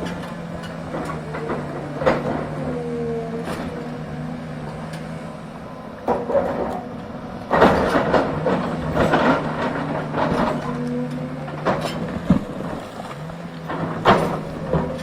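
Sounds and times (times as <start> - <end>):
diesel engine running: 0.0 - 15.0
rough crunching and scraping: 0.0 - 15.0.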